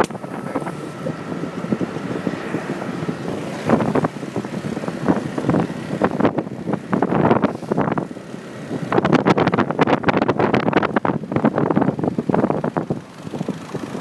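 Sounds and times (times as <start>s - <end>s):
motorcycle engine: 0.0s - 14.0s
street traffic: 0.0s - 14.0s
wind buffeting microphone: 0.0s - 14.0s.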